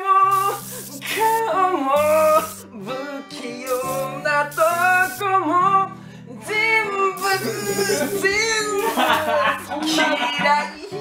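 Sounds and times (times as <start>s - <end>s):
man singing a ballad: 0.0s - 11.0s
strummed acoustic guitar: 0.0s - 11.0s.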